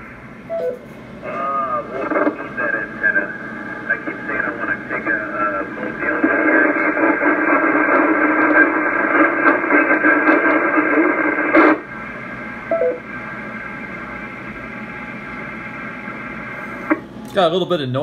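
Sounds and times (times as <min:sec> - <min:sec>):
steady radio hiss: 0:00.0 - 0:18.0
radio transmission in static: 0:01.2 - 0:17.0.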